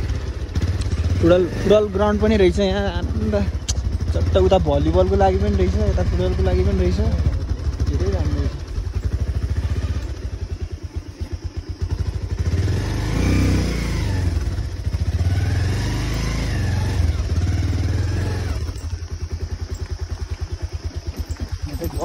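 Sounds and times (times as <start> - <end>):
engine running with low putter: 0.0 - 22.0.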